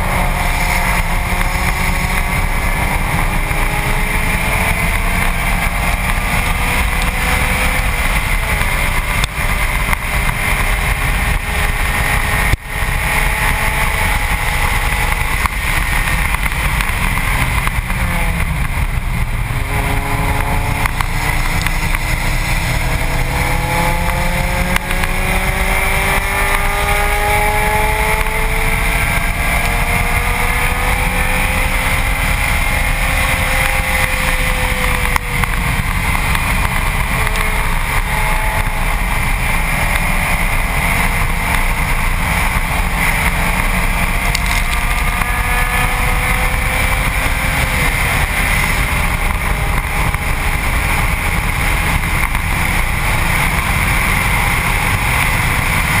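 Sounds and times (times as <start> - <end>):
car engine note: 0.0 - 56.0
road roar: 0.0 - 56.0.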